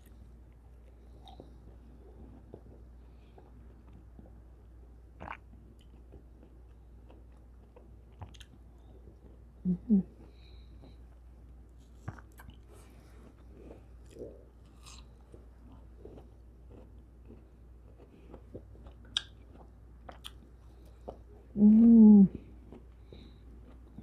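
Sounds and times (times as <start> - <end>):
chewing soft fruit: 0.0 - 24.0.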